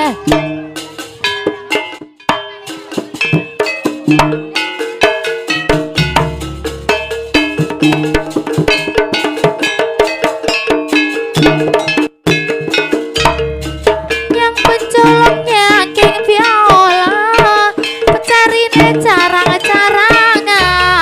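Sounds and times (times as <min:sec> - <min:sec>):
drum beats: 0:00.0 - 0:21.0
ringing metal percussion: 0:00.0 - 0:21.0.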